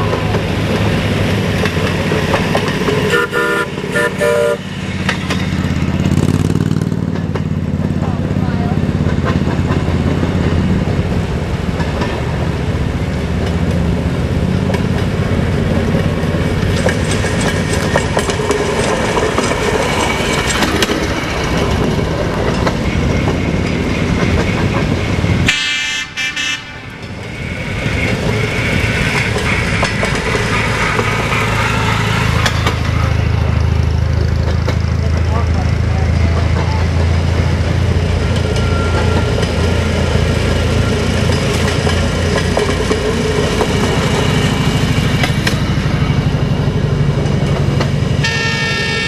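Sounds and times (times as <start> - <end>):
train engine hum: 0.0 - 49.0
train wheels clattering on rails: 0.0 - 49.0.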